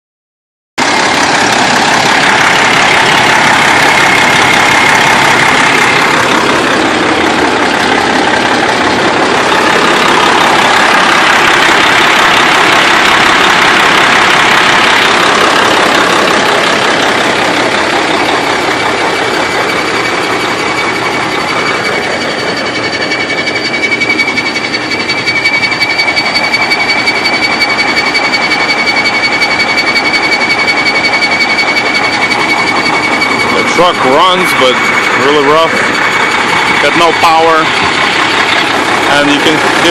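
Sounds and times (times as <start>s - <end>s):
truck diesel engine idling roughly: 0.8s - 39.9s
thin high whine: 1.0s - 39.9s.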